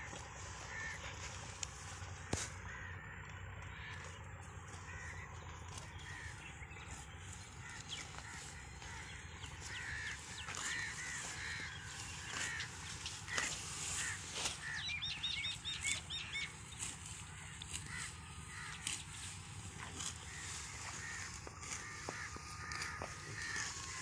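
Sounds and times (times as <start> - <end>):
birds calling: 0.0 - 24.0.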